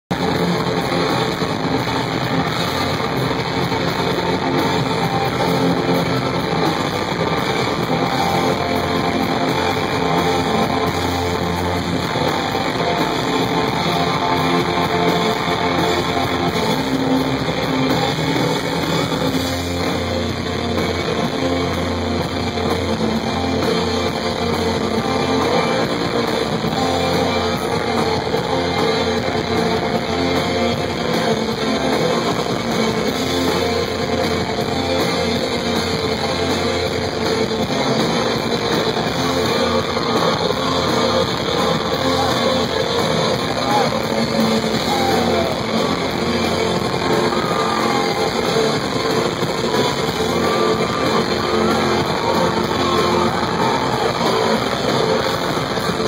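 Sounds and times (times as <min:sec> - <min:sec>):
bass guitar: 0:00.0 - 0:56.0
electric guitar: 0:00.0 - 0:56.0
live rock band playing: 0:00.1 - 0:56.0.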